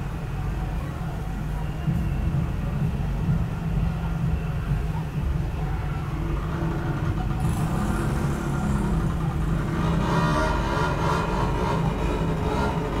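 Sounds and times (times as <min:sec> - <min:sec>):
vehicle engine rumbling: 0:00.0 - 0:13.0
higher drone: 0:01.3 - 0:13.0.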